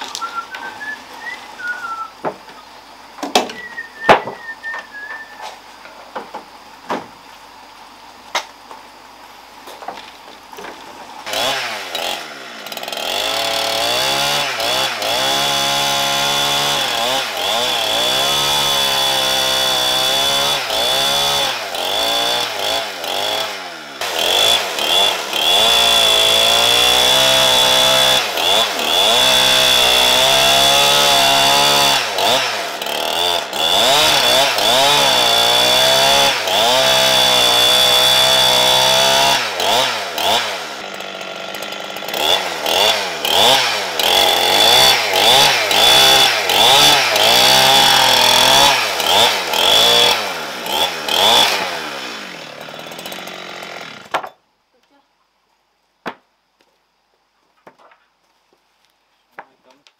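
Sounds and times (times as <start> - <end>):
chainsaw cutting wood: 0.0 - 2.6, 3.2 - 7.2, 9.7 - 54.4.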